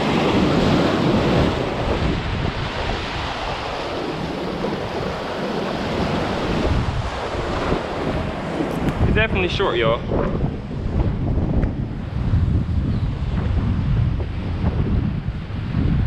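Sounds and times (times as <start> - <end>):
surf washing over rocks: 0.0 - 16.0
wind buffeting the microphone: 0.0 - 16.0.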